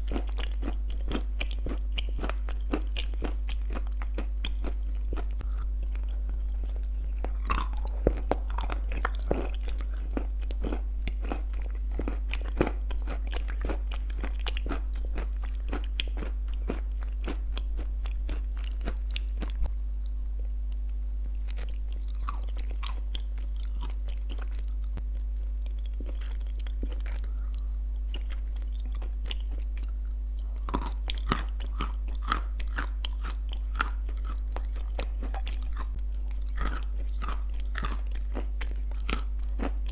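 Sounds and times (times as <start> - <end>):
crunchy clay chewing: 0.0 - 39.9.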